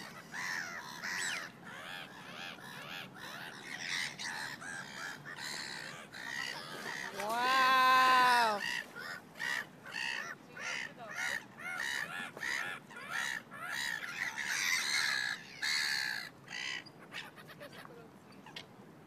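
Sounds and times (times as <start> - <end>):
birds calling in short calls: 0.0 - 18.7.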